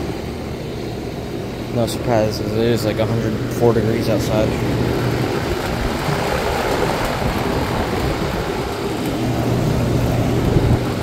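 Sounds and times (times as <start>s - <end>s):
compressor hum: 0.0s - 11.0s
fan rushing air: 0.0s - 11.0s.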